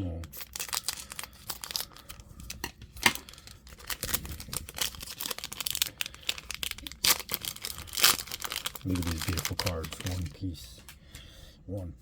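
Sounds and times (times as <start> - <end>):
wrapper tearing and crinkling: 0.2 - 10.4.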